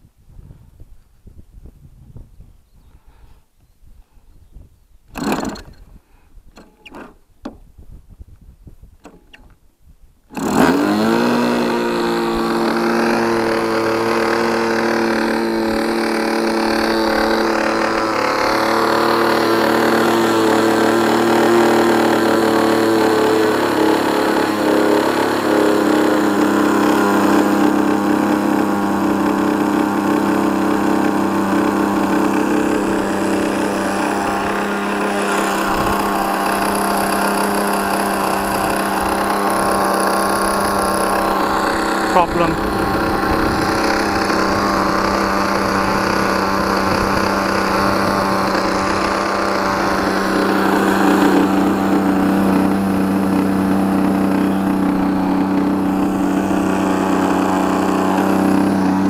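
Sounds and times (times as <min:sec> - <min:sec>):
model glow engine running: 0:10.4 - 0:59.0.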